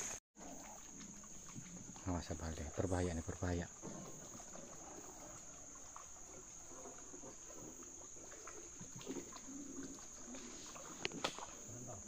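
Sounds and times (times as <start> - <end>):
canoe paddle in water: 0.0 - 12.0.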